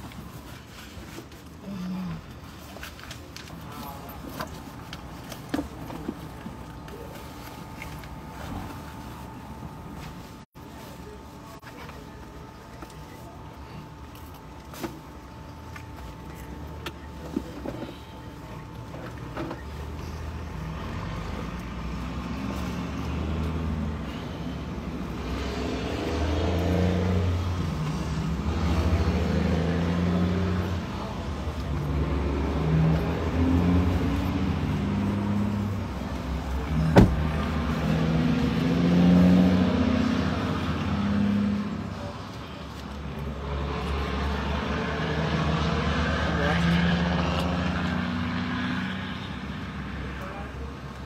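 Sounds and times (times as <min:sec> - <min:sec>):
vehicle engine rumbling: 0:00.0 - 0:51.0.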